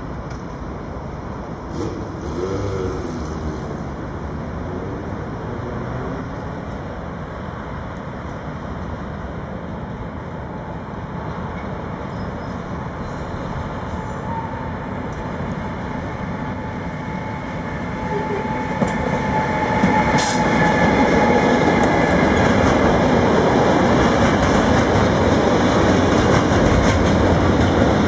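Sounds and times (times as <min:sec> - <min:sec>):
road traffic: 0:00.0 - 0:28.0
train rumbling: 0:00.0 - 0:28.0.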